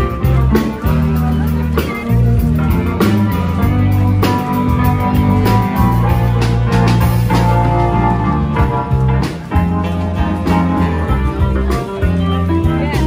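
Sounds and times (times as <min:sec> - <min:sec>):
band music with guitar and drums: 0:00.0 - 0:13.0.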